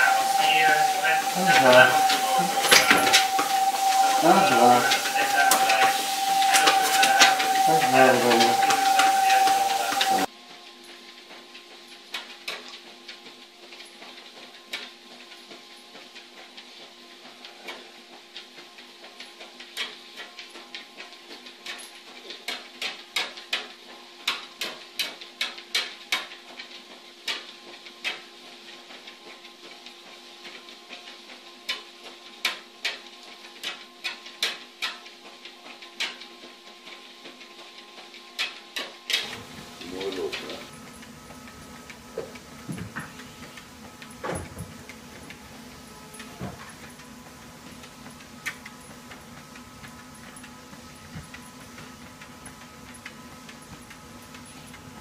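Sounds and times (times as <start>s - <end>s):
treadmill motor hum: 0.0s - 55.0s.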